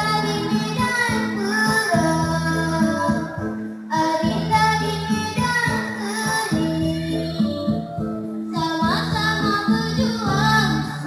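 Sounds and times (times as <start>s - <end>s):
girl singing into a microphone: 0.0s - 11.0s
recorded backing music: 0.0s - 11.0s.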